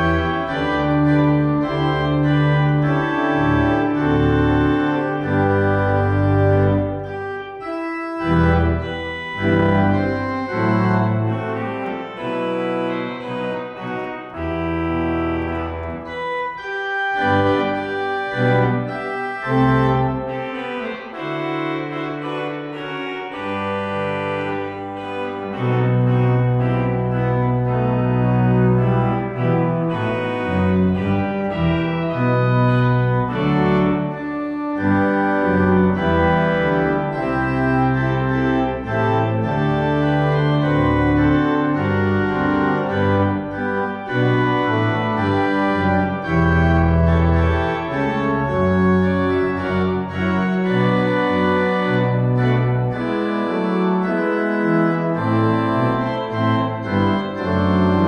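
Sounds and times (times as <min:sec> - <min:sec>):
organ playing slow chords: 0:00.0 - 0:58.0.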